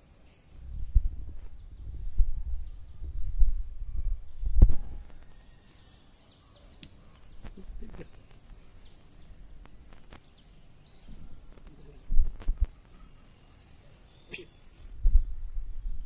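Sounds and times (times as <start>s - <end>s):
faint bird chirps: 0.2s - 16.0s.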